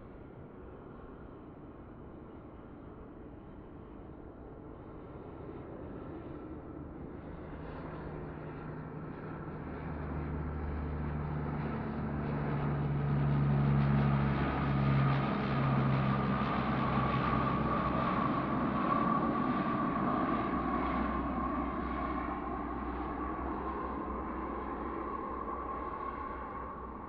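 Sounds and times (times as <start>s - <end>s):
propeller airliner passing low: 4.8s - 27.0s.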